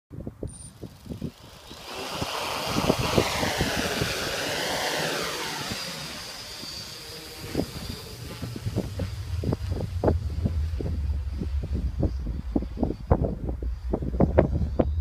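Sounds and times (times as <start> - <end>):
wind buffeting microphone: 0.1 - 15.0
drone motors whining: 0.5 - 15.0.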